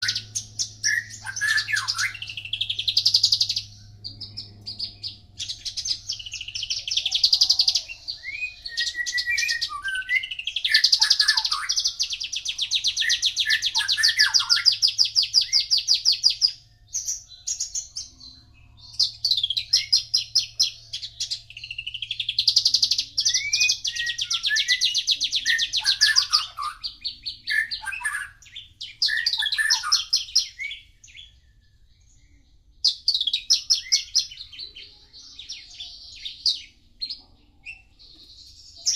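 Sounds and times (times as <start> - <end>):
bird singing trilled notes: 0.0 - 38.9.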